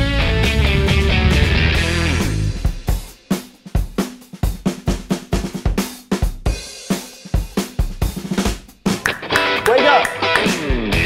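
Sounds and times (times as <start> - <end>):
drum kit beat: 0.1 - 11.0.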